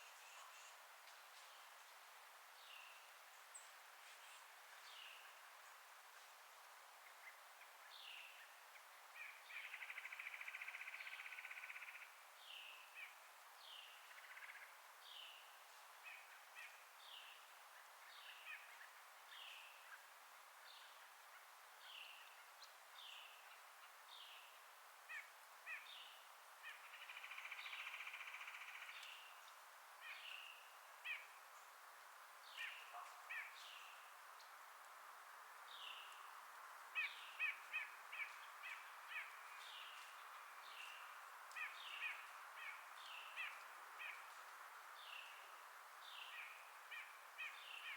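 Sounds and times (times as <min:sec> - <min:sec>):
forest ambience hiss: 0:00.0 - 0:47.9.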